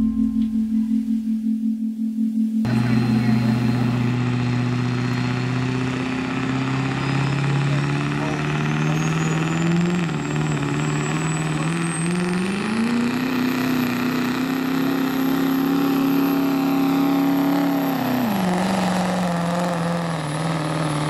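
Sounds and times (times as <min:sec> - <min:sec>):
diesel engine at full throttle: 0:02.6 - 0:21.0
turbocharger whistle: 0:02.7 - 0:21.0.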